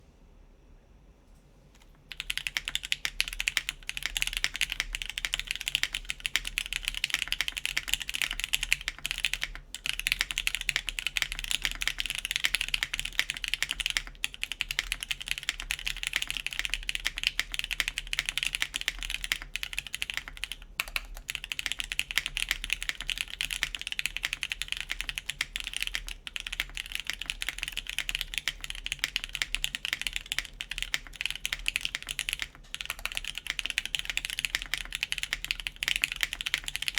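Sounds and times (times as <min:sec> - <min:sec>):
fast typing on mechanical keyboard: 0:01.8 - 0:36.9.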